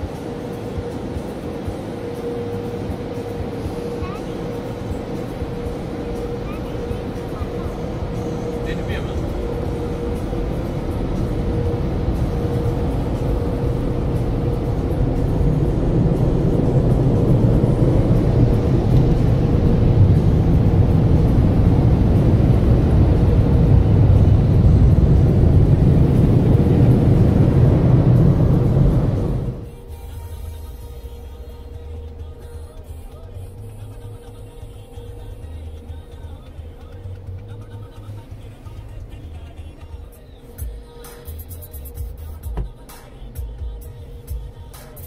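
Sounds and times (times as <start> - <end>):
car wash water spray and brushes: 4.6 - 45.0.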